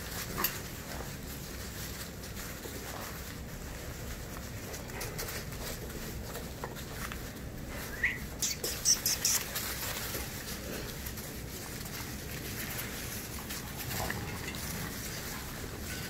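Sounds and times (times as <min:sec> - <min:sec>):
puppies scuffling in wood shavings: 0:00.0 - 0:16.0
sharp rustling scrapes: 0:00.0 - 0:16.0.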